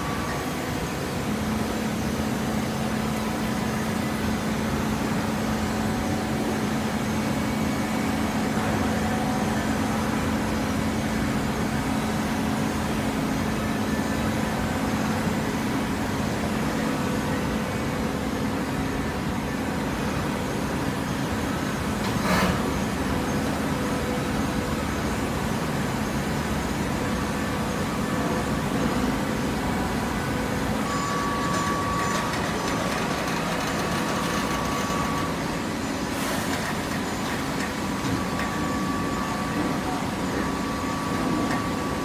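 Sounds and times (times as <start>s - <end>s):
baler machine droning: 0.0s - 42.0s.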